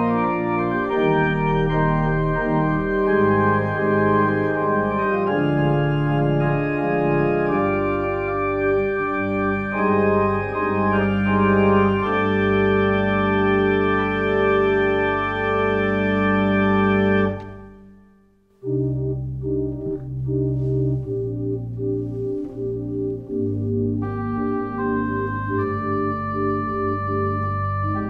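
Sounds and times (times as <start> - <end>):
church organ playing chords: 0.0 - 28.0.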